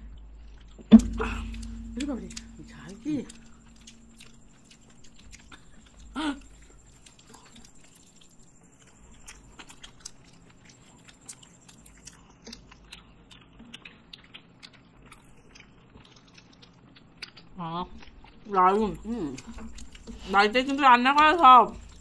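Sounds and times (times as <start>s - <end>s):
people chewing and biting food: 0.0s - 22.0s
wet clicks and smacks: 0.6s - 22.0s.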